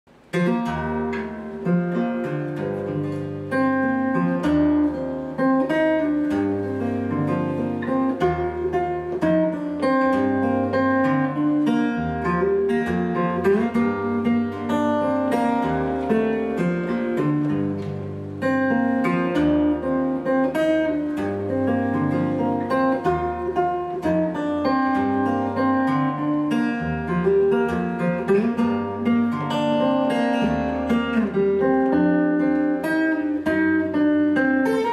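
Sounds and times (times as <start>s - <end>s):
fingerstyle acoustic guitar: 0.1s - 34.9s.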